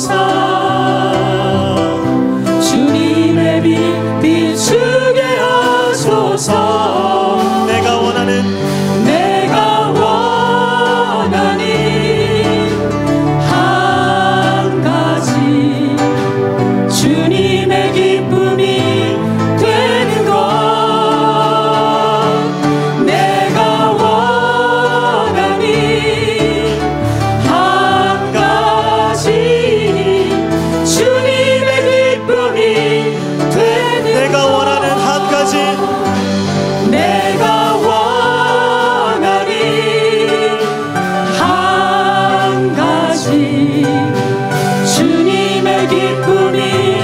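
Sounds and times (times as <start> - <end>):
group singing worship song: 0.0 - 47.0
sustained accompaniment: 0.5 - 47.0.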